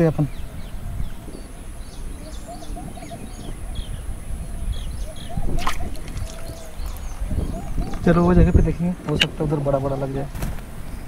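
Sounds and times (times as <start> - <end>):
small birds chirping: 0.0 - 11.0
wind on microphone: 0.0 - 11.0.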